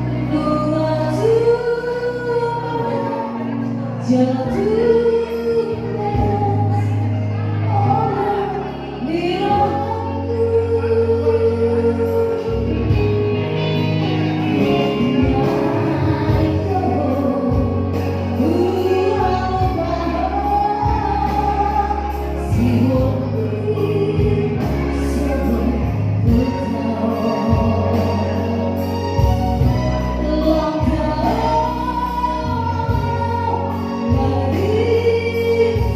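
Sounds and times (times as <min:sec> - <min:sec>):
held bass notes: 0:00.0 - 0:35.9
instrumental accompaniment: 0:00.0 - 0:35.9
person singing: 0:00.0 - 0:35.9.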